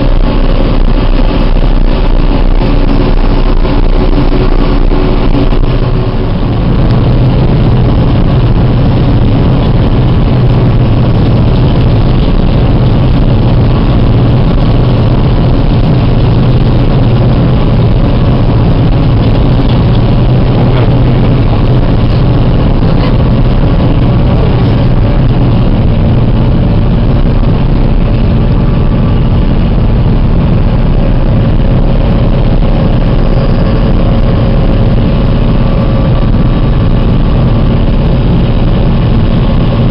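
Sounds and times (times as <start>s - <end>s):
cutterhead and crop rushing: 0.0s - 39.9s
loud steady engine drone: 0.0s - 39.9s.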